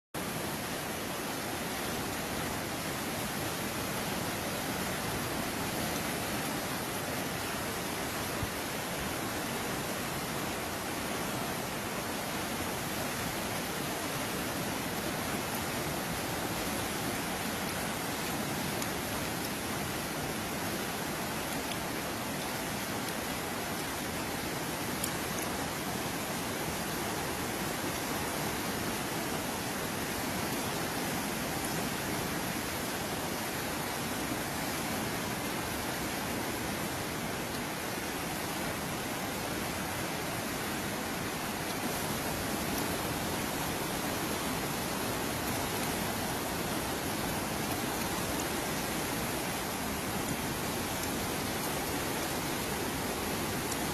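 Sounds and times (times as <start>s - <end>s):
rushing water from heavy rain: 0.2s - 53.9s.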